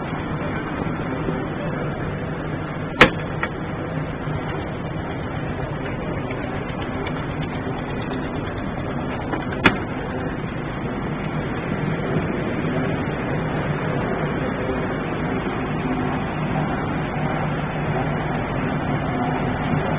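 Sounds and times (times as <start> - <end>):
dryer plant mechanical din: 0.0 - 19.9.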